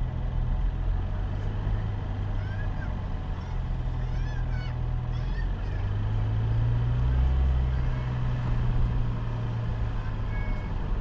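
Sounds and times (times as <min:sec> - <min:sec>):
car engine hum: 0:00.0 - 0:11.0
road rumble: 0:00.0 - 0:11.0.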